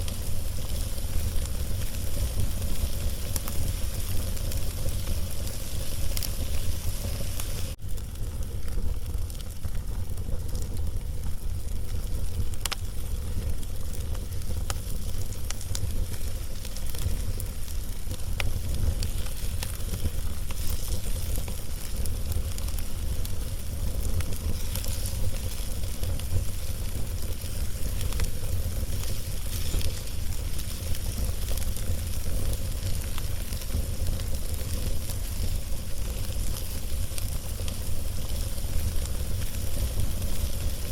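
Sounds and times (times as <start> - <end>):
log fire crackling: 0.0 - 40.9
sharp fire pops: 0.0 - 40.9.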